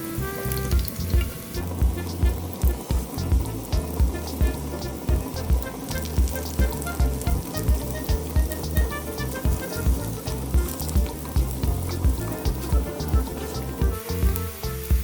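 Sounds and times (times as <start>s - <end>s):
background music with a beat: 0.0s - 15.0s
zucchini frying in oil: 0.0s - 15.0s.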